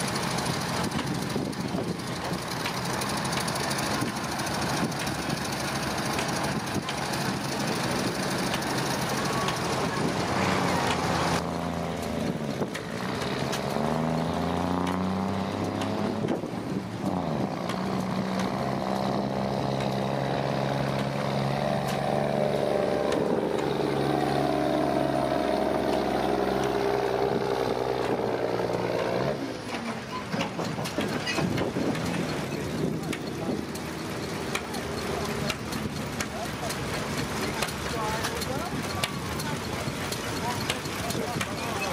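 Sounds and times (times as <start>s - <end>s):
diesel lorry engine labouring: 0.0s - 41.9s.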